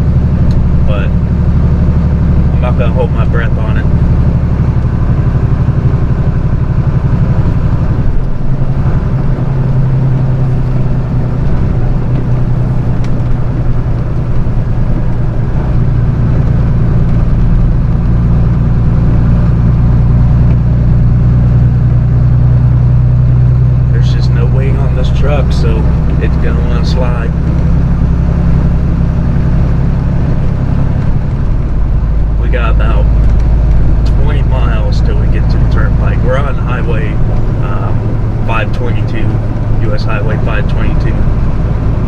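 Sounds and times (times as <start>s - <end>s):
truck engine droning: 0.0s - 42.0s.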